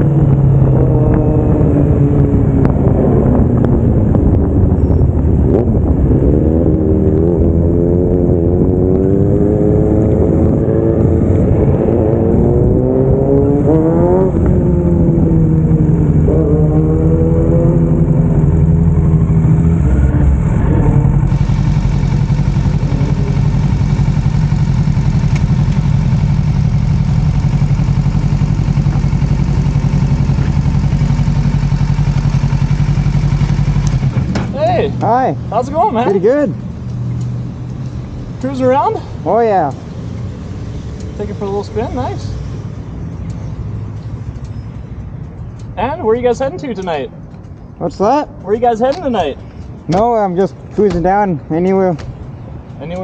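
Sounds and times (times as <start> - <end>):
motorcycle engine revving: 0.0 - 44.5.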